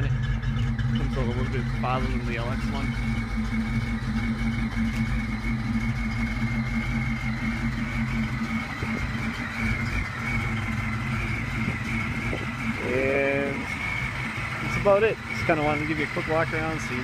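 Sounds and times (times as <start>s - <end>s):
car engine idling: 0.0s - 17.0s
high supercharger whine: 0.0s - 17.0s.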